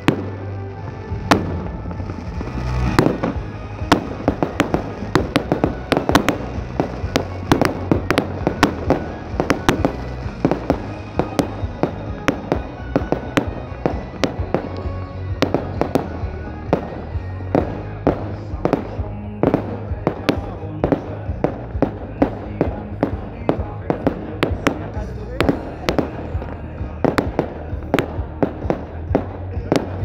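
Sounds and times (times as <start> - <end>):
fireworks bangs: 0.0 - 30.0
fireworks crackling: 0.0 - 30.0
music: 0.0 - 30.0.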